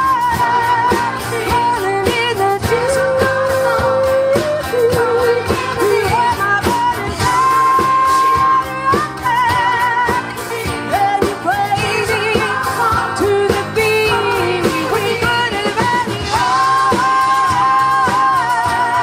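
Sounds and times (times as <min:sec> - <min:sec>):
live band music: 0:00.0 - 0:19.0
person singing: 0:00.0 - 0:19.0
steady drum beat: 0:00.0 - 0:19.0.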